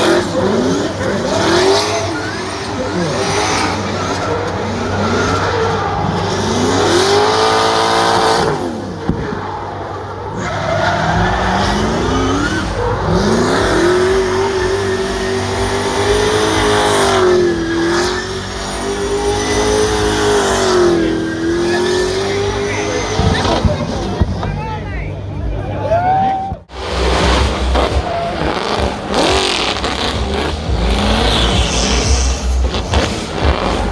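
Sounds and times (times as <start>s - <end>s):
race car engine revving: 0.0s - 25.8s, 26.6s - 33.9s.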